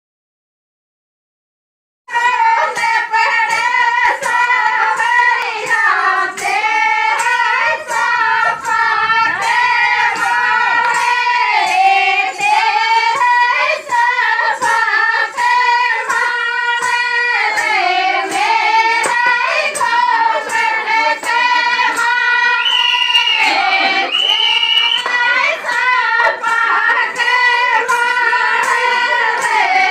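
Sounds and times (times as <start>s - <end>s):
hand claps keeping beat: 2.1s - 29.9s.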